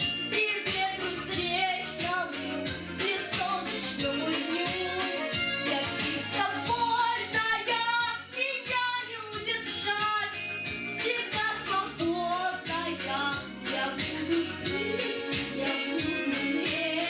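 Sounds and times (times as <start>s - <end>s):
backing track with steady beat: 0.0s - 17.0s
woman singing pop song: 0.0s - 17.0s.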